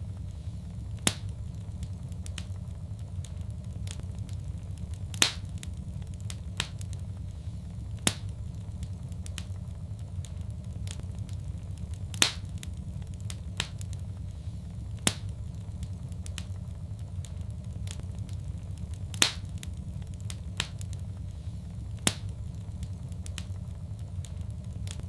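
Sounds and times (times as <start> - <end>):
fire crackling and popping: 0.0 - 25.0
low fire rumble: 0.0 - 25.0.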